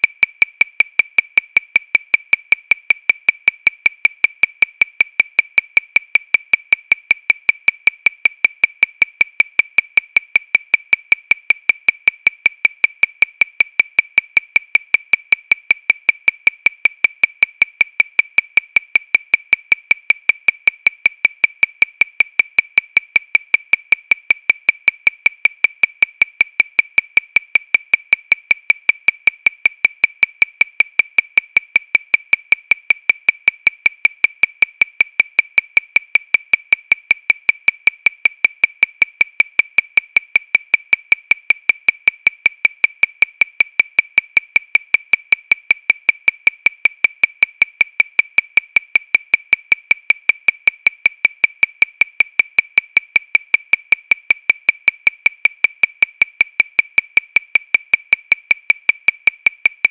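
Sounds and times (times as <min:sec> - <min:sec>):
metronome clicking: 0:00.0 - 0:59.9.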